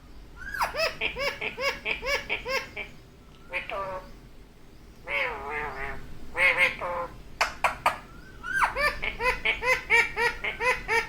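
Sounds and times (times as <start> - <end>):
parrot calling: 0.4 - 4.2, 5.0 - 11.0.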